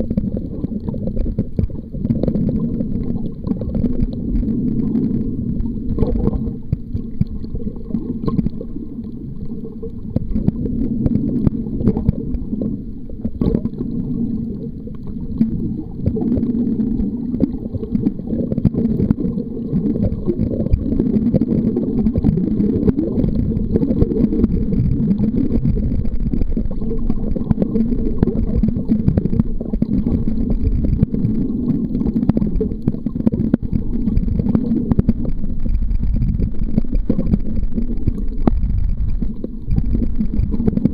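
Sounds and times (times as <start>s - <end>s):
faint clicks: 0.0s - 40.9s
muffled underwater rumble: 0.0s - 40.9s.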